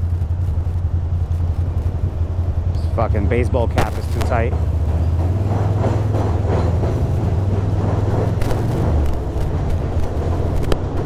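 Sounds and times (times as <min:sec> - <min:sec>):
motorcycle engine running slowly: 0:00.0 - 0:11.0
road noise: 0:00.0 - 0:11.0.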